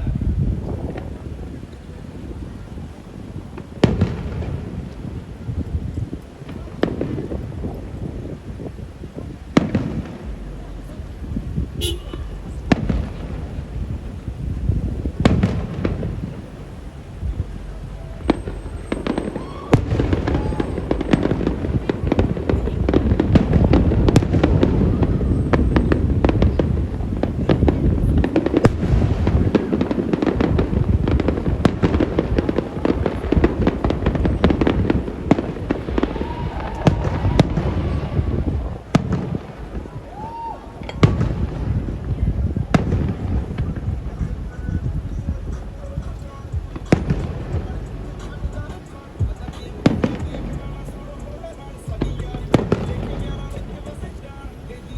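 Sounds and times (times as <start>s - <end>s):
fireworks bursting: 0.0s - 54.9s
fireworks crackling: 0.0s - 54.9s
low rumble: 6.7s - 39.8s, 41.1s - 54.9s.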